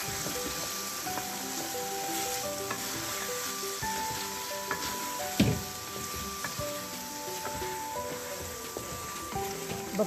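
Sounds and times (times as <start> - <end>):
meat sizzling in a pot: 0.0 - 10.0
music of long held notes: 0.0 - 10.0
wooden spoon stirring: 0.0 - 10.0.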